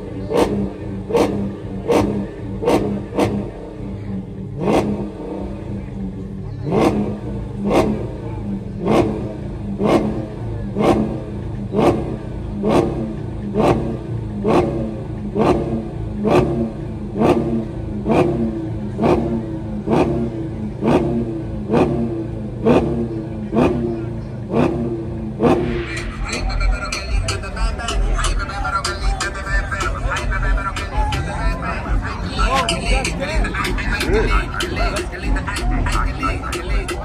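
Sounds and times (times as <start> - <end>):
car engine revving: 0.0 - 37.0
low engine drone: 7.3 - 37.0.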